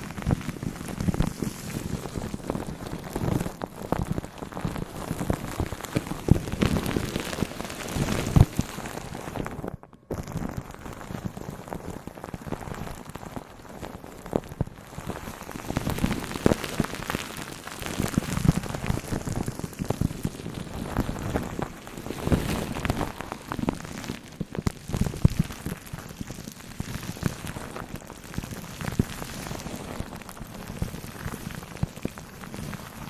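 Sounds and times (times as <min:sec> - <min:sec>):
dense irregular crackling: 0:00.0 - 0:33.0.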